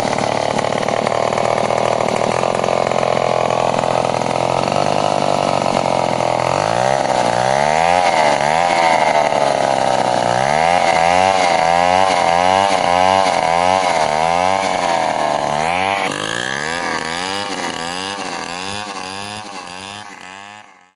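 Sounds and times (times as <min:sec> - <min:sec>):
chainsaw cutting wood: 0:00.0 - 0:20.9.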